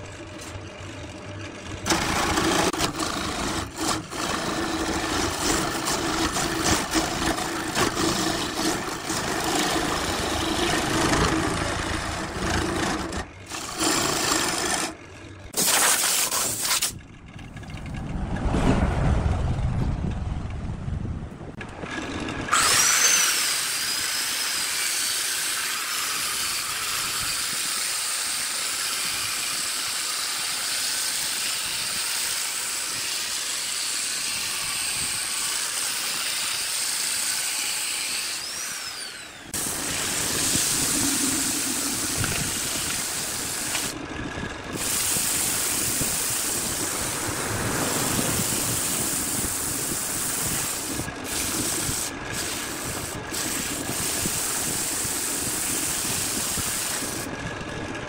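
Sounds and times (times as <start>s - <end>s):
wood lathe running: 0.0s - 15.6s, 21.6s - 58.0s
power sander motor: 0.0s - 18.4s, 21.6s - 58.0s
sandpaper hissing on turning wood: 1.9s - 15.0s, 15.6s - 17.0s, 22.6s - 44.0s, 44.7s - 57.3s.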